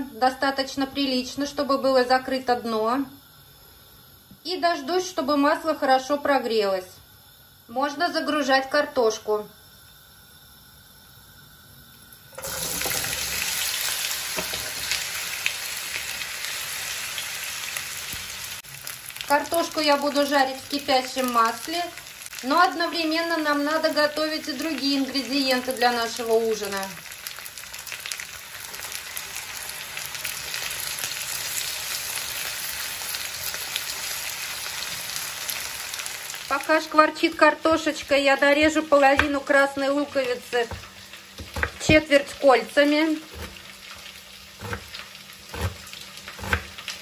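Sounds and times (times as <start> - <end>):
potatoes sizzling in oil: 0.0 - 47.0.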